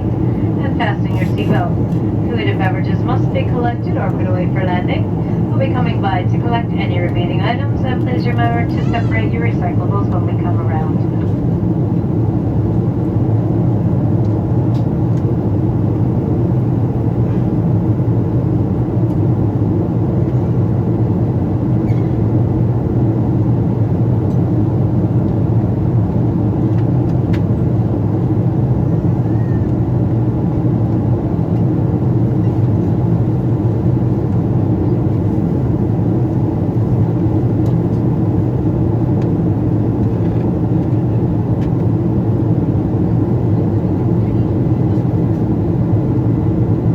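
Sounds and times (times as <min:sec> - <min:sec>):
jet engines droning in cabin: 0:00.0 - 0:46.9.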